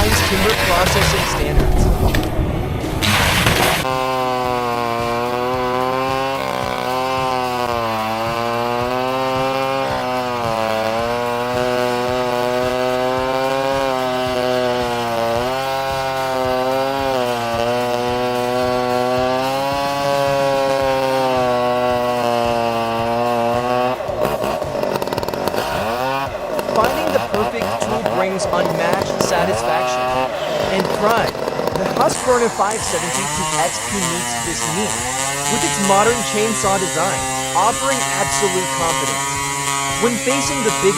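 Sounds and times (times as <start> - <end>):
engine saw cutting wood: 0.0 - 40.9.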